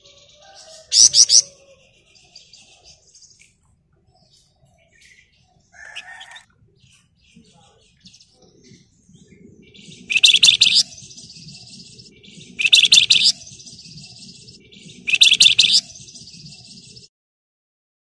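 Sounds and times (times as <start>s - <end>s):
bird singing rapid trill: 0.0s - 3.4s, 4.2s - 17.1s.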